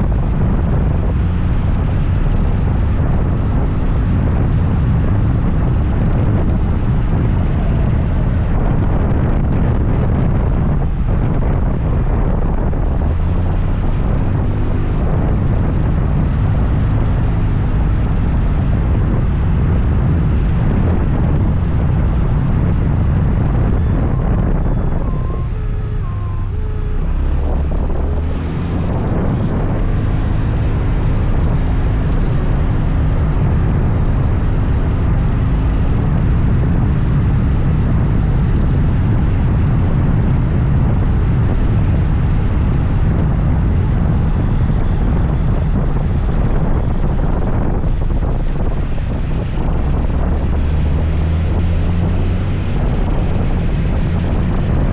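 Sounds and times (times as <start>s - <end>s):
road noise: 0.0s - 54.9s
wind rushing over microphone: 0.0s - 54.9s.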